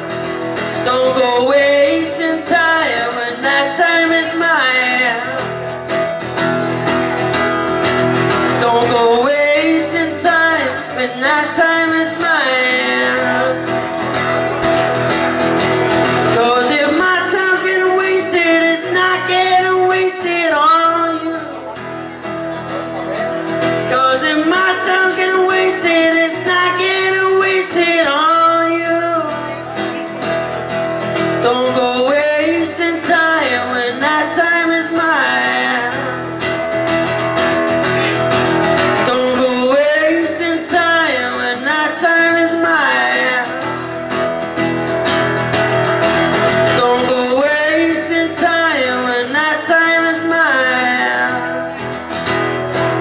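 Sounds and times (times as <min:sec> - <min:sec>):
man singing: 0:00.0 - 0:22.2, 0:22.9 - 0:53.0
acoustic guitar strumming: 0:00.0 - 0:53.0.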